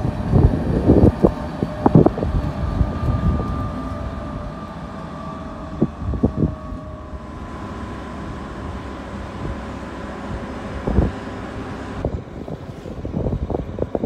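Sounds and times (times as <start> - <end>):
locomotive rumbling: 0.0 - 14.0.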